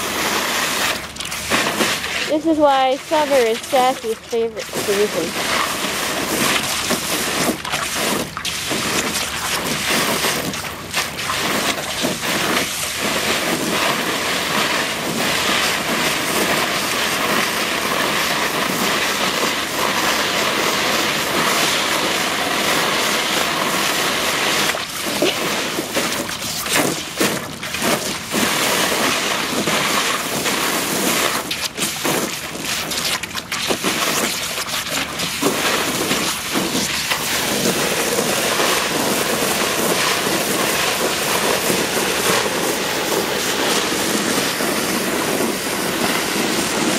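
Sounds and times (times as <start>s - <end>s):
dog splashing in water: 0.0s - 46.9s
hose water jet hissing: 0.0s - 46.9s.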